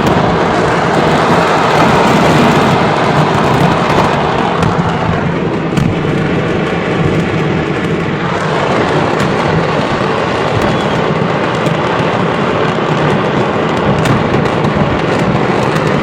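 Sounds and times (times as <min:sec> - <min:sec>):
fireworks crackling and rumbling: 0:00.0 - 0:16.0
sharp firework cracks: 0:00.0 - 0:16.0.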